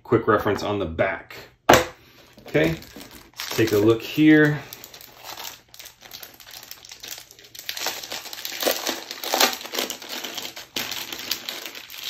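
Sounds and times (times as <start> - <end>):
paper rustling and crinkling: 2.2 - 12.0.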